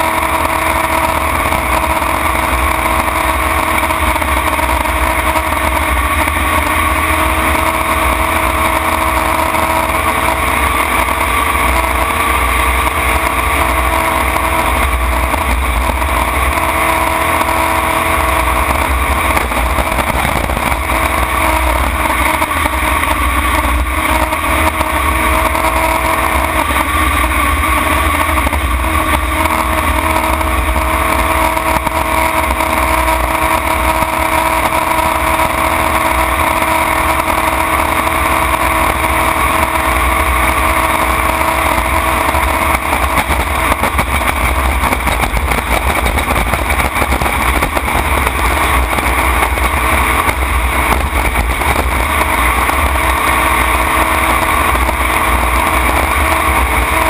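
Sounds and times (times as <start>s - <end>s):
jet boat engine running flat out: 0.0s - 57.0s.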